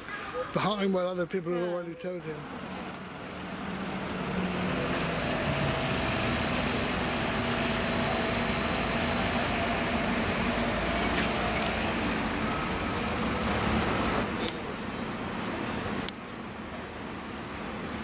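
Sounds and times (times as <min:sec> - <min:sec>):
road noise: 0:00.0 - 0:18.0
vehicle engines running: 0:02.1 - 0:18.0.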